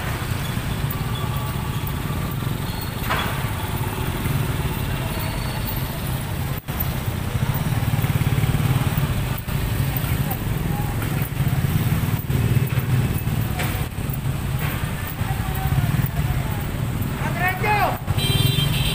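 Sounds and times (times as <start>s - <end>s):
motorcycle and scooter engines: 0.0s - 18.9s.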